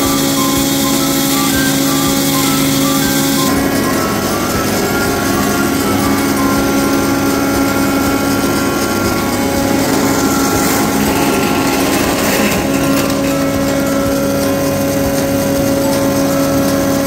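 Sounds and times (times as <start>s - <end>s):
chain mortiser cutting wood: 0.0s - 17.0s
woodworking machine motor hum: 0.0s - 17.0s.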